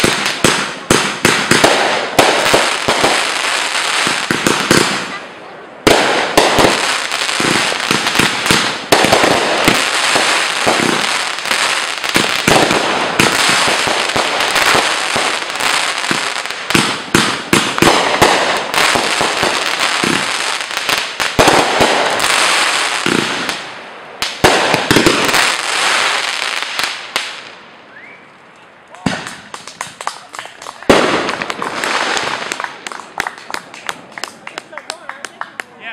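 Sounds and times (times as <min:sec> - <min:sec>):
fireworks bangs: 0:00.0 - 0:28.1, 0:29.0 - 0:35.1
crackling glitter fireworks: 0:00.0 - 0:35.9.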